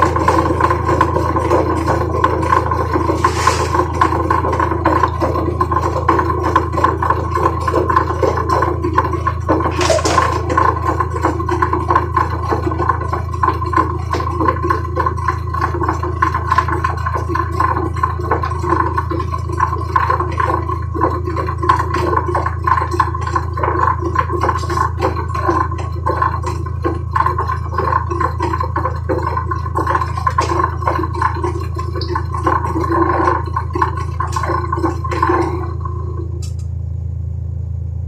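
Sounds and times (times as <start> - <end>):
water churning and sloshing: 0.0 - 36.6
low motor hum: 0.0 - 38.0.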